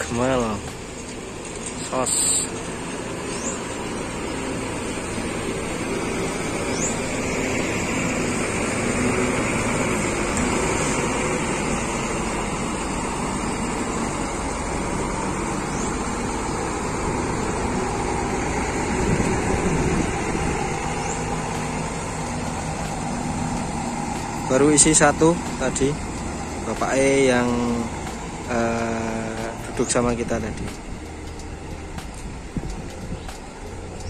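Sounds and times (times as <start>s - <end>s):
diesel bus engines rumbling: 0.0s - 34.0s.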